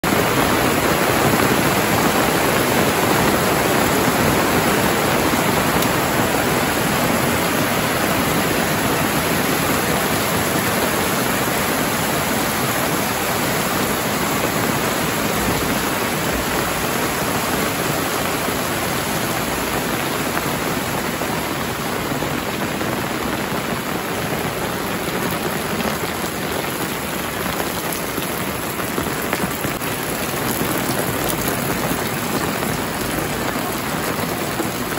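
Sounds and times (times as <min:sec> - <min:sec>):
heavy rain on metal roofs: 0:00.0 - 0:34.9.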